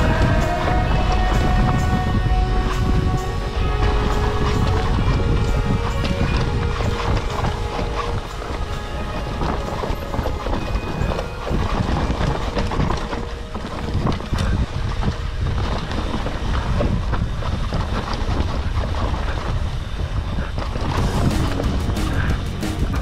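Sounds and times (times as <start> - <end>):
bike chain and frame rattling: 0.0 - 23.0
bike tyres skidding on dirt: 0.0 - 23.0
wind rumble on microphone: 0.0 - 23.0.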